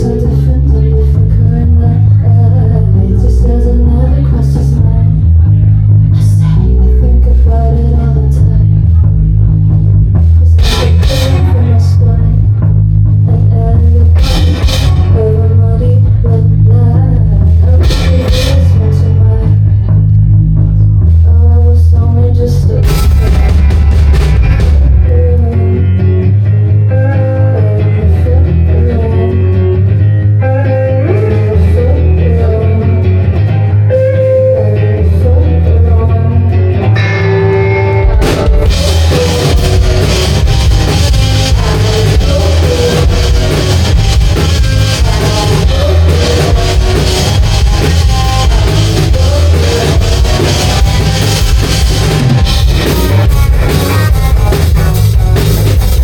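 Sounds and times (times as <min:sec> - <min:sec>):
guitar melodic line: 0:00.0 - 0:56.0
rock band playing: 0:04.7 - 0:21.2, 0:22.7 - 0:56.0.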